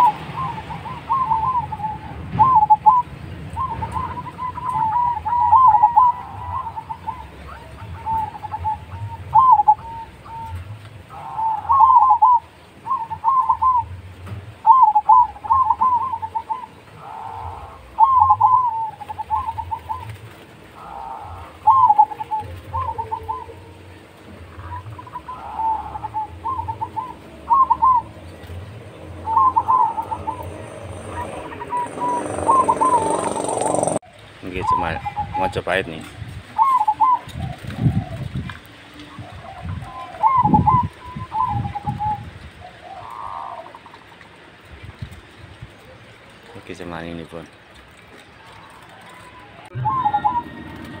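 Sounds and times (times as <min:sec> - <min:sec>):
dove cooing: 0:00.0 - 0:14.0, 0:14.6 - 0:44.2, 0:48.2 - 0:51.0.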